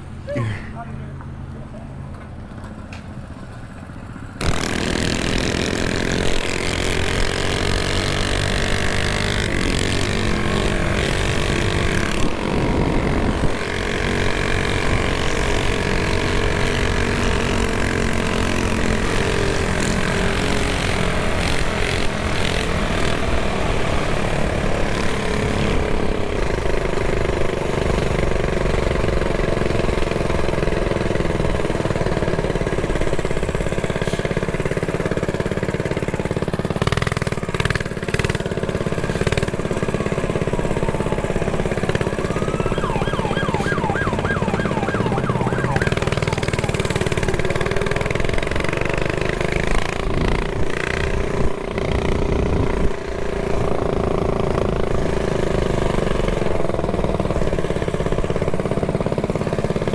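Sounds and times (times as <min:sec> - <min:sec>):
mini bike engines revving: 0:04.4 - 0:59.9.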